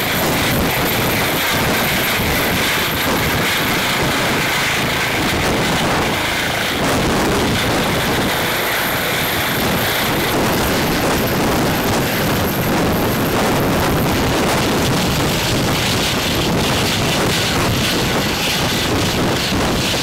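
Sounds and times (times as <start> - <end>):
helicopter rotor wash: 0.0 - 20.0
high turbine whine: 0.0 - 20.0.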